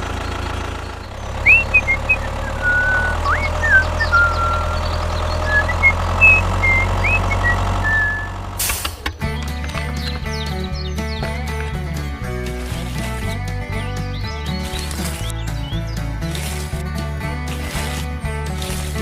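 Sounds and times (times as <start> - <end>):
birds chirping: 0.0 - 8.5, 9.1 - 19.0
small engine idling: 0.0 - 19.0.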